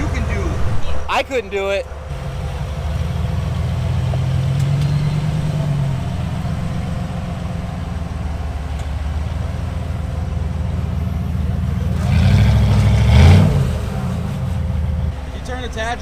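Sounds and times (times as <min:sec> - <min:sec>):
engine rumbling at low revs: 0:00.0 - 0:16.0.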